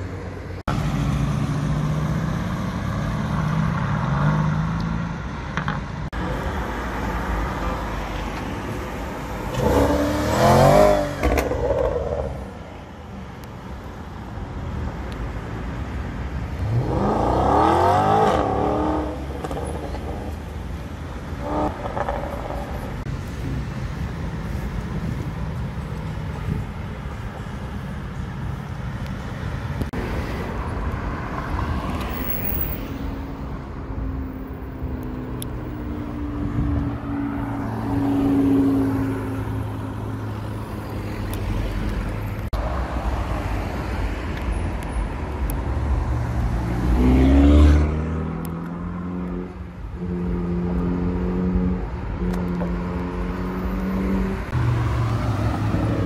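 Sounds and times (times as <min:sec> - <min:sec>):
steady traffic: 0:00.0 - 0:56.0.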